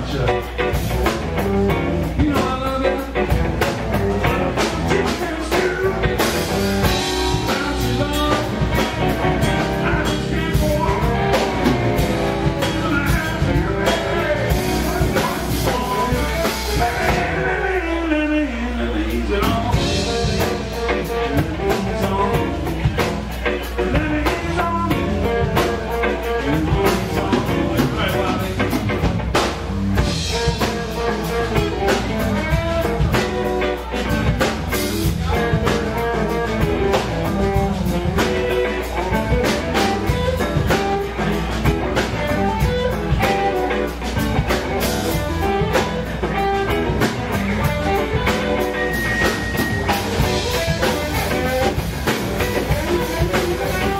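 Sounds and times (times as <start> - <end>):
drum kit: 0.0 - 18.2, 19.0 - 53.9
bass guitar: 0.0 - 53.9
electric blues guitar lead: 0.0 - 53.9.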